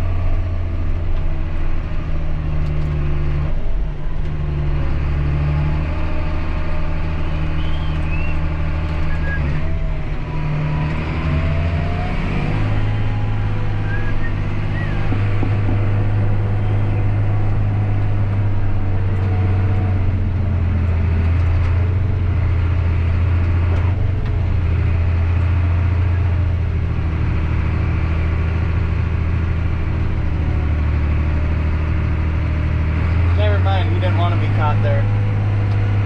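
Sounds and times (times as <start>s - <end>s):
tractor diesel engine droning: 0.0s - 36.0s.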